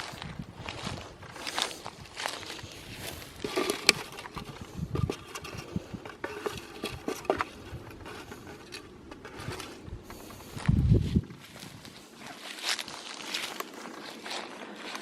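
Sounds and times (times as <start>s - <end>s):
footsteps along a roadside: 0.0s - 15.0s.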